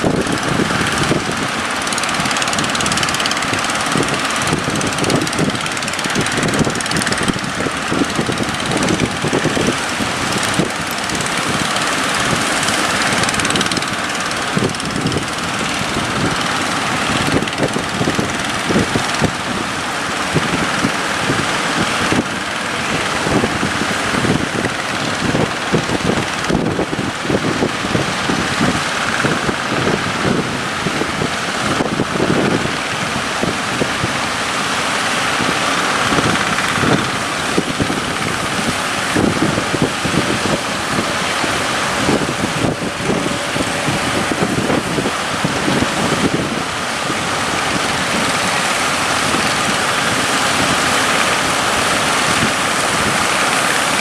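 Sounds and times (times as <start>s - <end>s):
boat engine running: 0.0s - 54.0s
rushing seawater: 0.0s - 54.0s
wind buffeting microphone: 0.0s - 54.0s.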